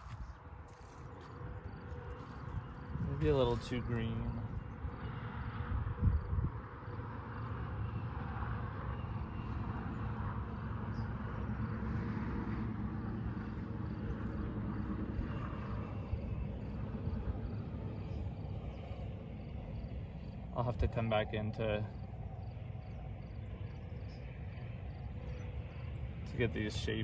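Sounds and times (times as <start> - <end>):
distant engine rumble: 0.0 - 8.0, 8.9 - 27.0.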